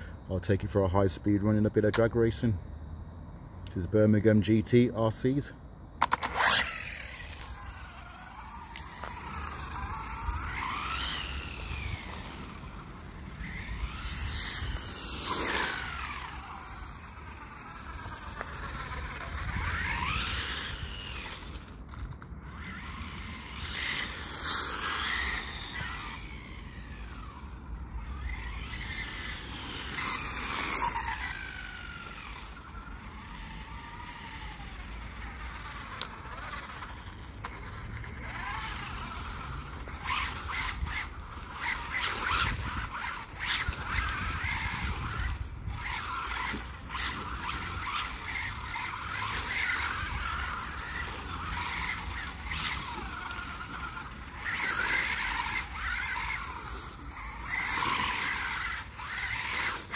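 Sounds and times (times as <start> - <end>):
rc car motor whine: 0.0 - 59.9
tyres rumbling on rough ground: 6.0 - 59.9.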